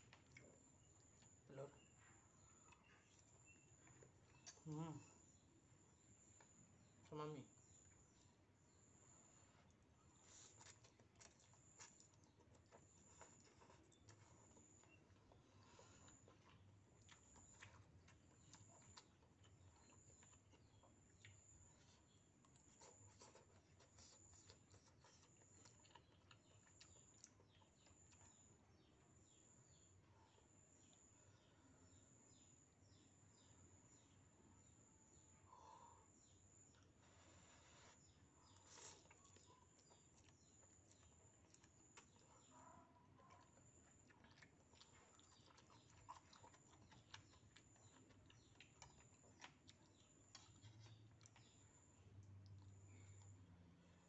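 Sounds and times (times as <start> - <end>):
chewing: 0.0 - 5.4, 7.8 - 31.6, 35.2 - 54.0
faint bird chirps: 0.0 - 54.0.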